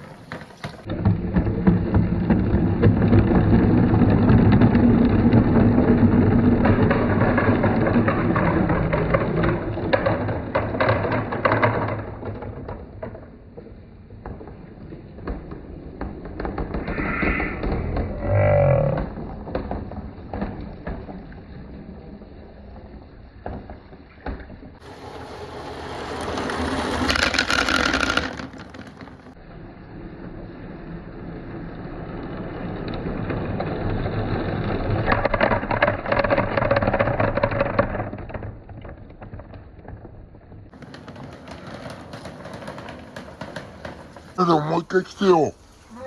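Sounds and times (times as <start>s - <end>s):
marbles rolling on a marble run: 0.0s - 29.4s, 30.8s - 45.3s.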